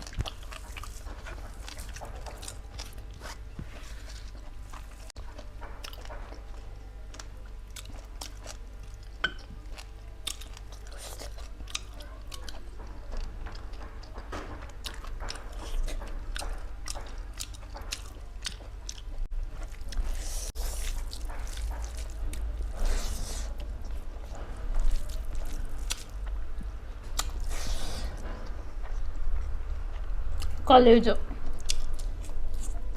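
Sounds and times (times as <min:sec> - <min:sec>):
person chewing food: 0:00.0 - 0:30.6, 0:31.4 - 0:32.9
low steady hum: 0:00.0 - 0:32.9.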